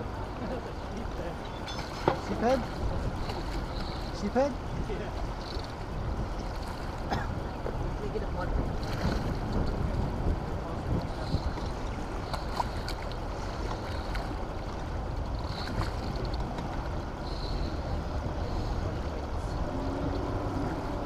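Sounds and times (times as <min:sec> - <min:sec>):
churning water: 0:00.0 - 0:21.0.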